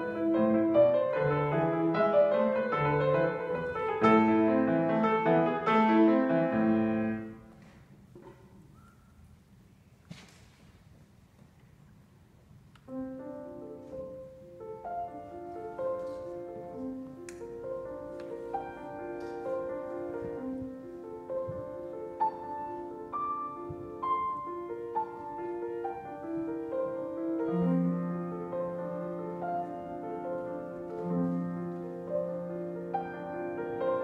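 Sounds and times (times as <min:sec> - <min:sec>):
grand piano piece: 0:00.0 - 0:10.0, 0:10.7 - 0:34.0.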